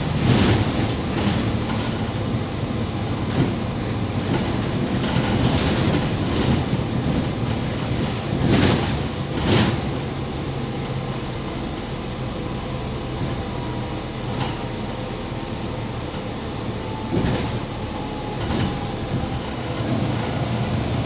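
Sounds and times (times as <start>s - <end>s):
bus engine hum: 0.0s - 21.0s
road and body rumble: 0.0s - 21.0s.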